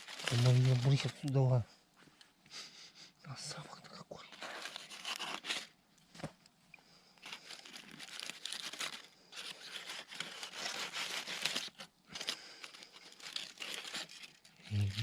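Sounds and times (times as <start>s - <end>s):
rustling and crinkling: 0.0s - 2.4s, 3.6s - 15.0s.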